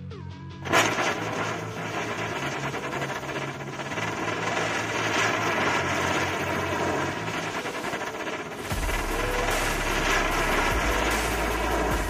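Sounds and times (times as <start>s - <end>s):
firework fountain hissing and crackling: 0.6s - 12.0s.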